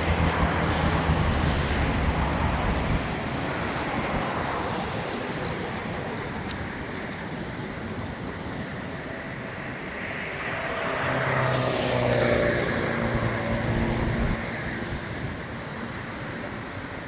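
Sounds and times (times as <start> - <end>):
background traffic hum: 0.0 - 17.0.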